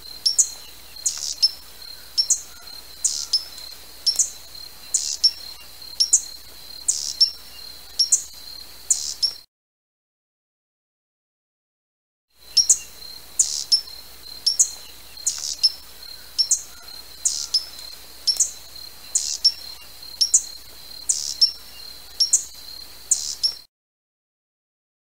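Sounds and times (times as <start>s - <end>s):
hummingbird chip calls: 0.0s - 9.4s, 12.5s - 23.6s.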